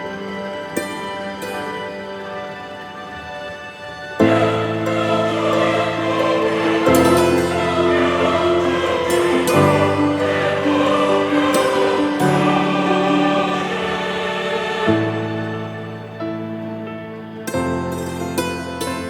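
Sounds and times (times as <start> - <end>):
choir-like sustained chords: 0.0 - 19.0.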